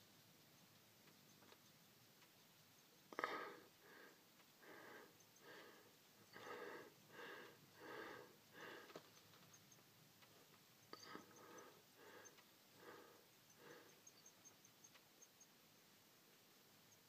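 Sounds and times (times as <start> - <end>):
soft rhythmic breathing: 0.0 - 17.0.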